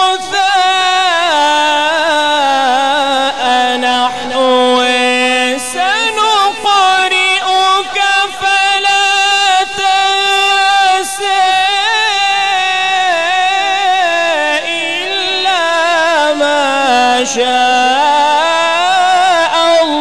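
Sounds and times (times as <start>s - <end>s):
man chanting into a microphone: 0.0s - 20.0s.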